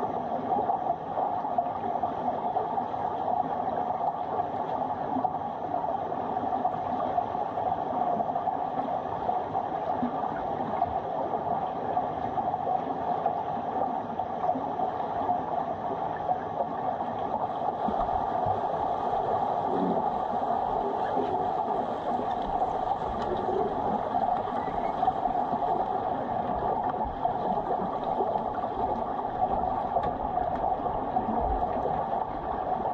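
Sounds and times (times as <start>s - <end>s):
low falling underwater sound: 0.0s - 32.9s
muffled underwater pool noise: 0.0s - 32.9s.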